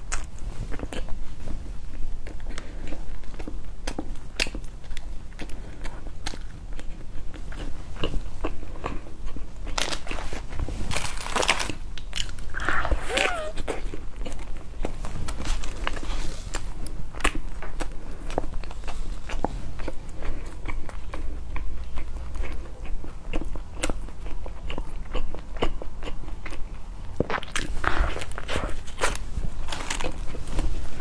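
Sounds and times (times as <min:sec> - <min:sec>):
chewing crunchy bread: 0:00.0 - 0:31.0.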